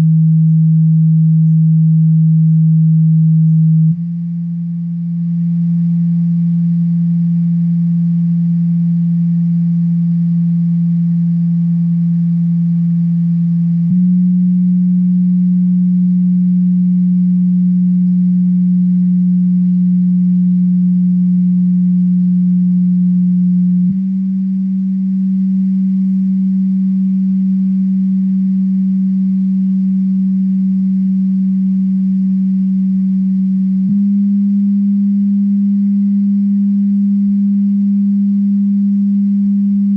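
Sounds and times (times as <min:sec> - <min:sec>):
subwoofer low test tones: 0:00.0 - 0:39.9.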